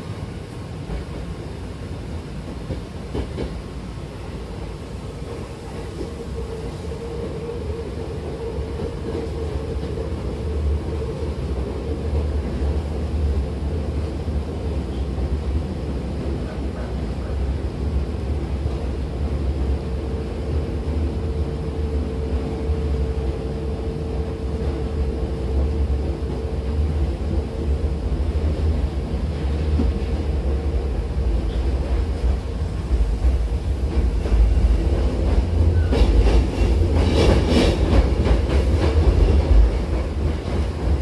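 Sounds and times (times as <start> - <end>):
train clattering: 0.0 - 41.0
train wheels rumbling on rail: 0.0 - 41.0.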